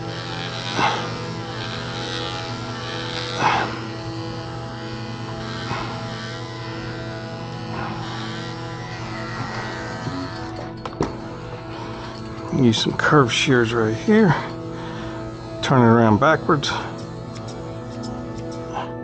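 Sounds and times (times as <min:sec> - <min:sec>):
electric clipper buzzing: 0:00.0 - 0:19.0.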